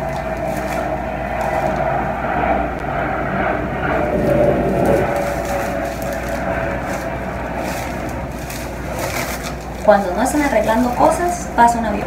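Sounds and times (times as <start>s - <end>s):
airplane drone overhead: 0.0s - 12.0s.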